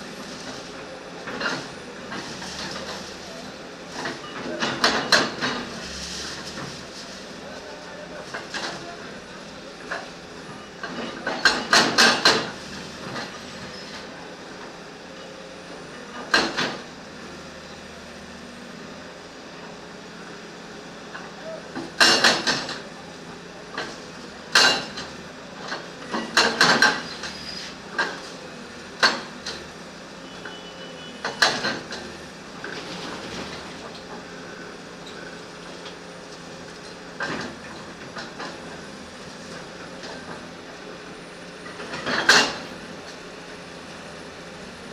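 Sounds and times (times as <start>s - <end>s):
backhoe engine running: 0.0s - 44.9s.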